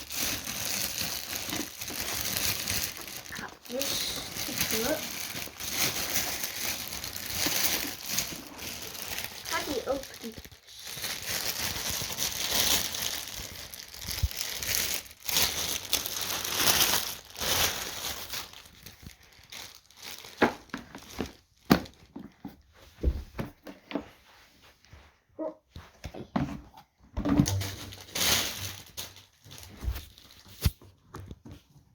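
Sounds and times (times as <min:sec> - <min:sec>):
plastic packaging crinkling: 0:00.0 - 0:22.4, 0:27.4 - 0:31.4.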